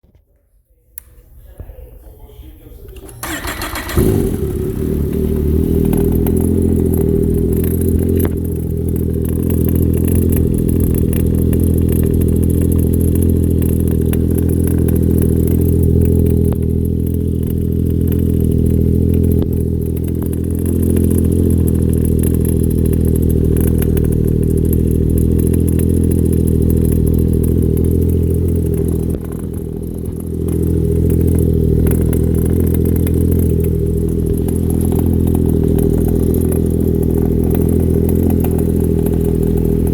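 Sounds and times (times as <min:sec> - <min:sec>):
vehicle engine idling: 0:02.2 - 0:39.9.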